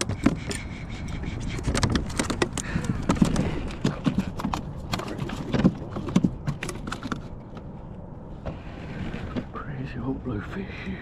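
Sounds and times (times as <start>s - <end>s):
fish thrashing against a kayak: 0.0s - 9.6s.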